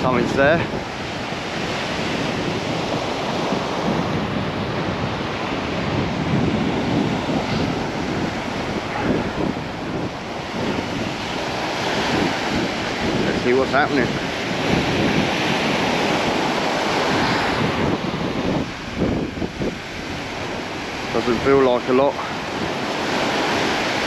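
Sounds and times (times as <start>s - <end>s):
surf washing onto beach: 0.0s - 24.0s
wind buffeting microphone: 0.0s - 24.0s.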